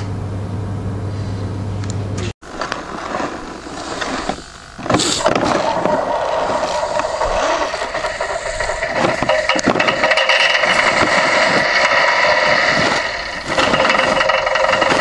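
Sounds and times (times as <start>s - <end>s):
rc truck motor whining: 2.5s - 15.0s.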